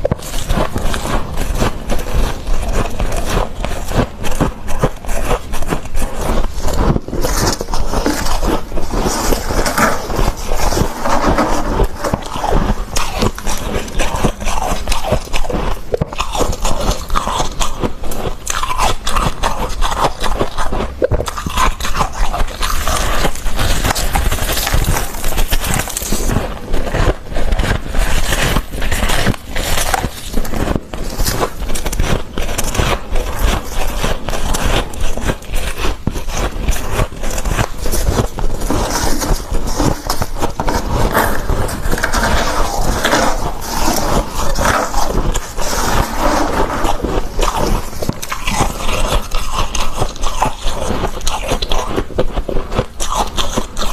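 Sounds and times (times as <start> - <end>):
frost crunching while chewed: 0.0 - 53.9.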